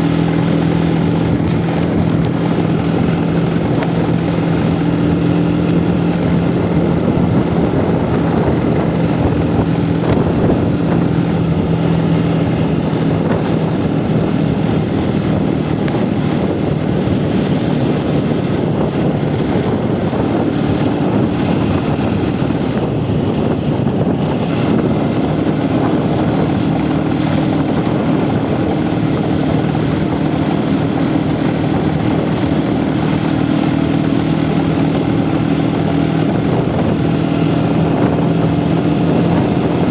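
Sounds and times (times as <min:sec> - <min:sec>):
motorcycle engine running: 0:00.0 - 0:39.9
steady loud rushing noise: 0:00.0 - 0:39.9.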